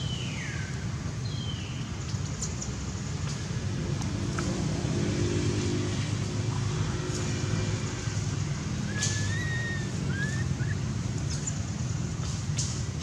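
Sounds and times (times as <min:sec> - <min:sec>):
motor traffic rumble: 0:00.0 - 0:13.0.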